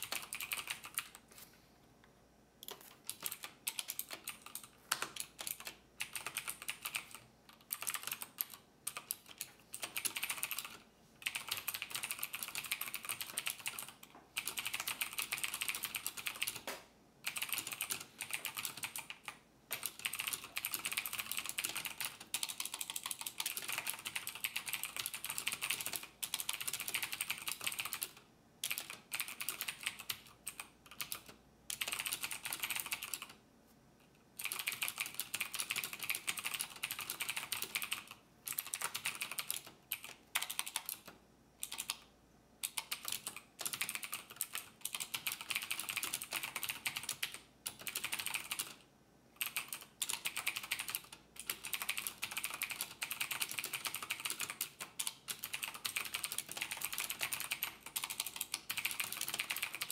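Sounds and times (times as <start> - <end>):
fast keyboard typing: 0.0 - 1.2, 2.6 - 33.4, 34.4 - 48.8, 49.4 - 59.9.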